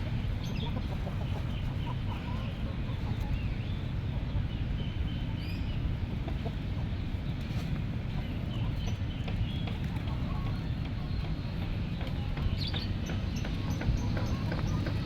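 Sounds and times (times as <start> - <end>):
birds chirping: 0.0 - 7.3, 8.0 - 15.0
low outdoor rumble: 0.0 - 15.0.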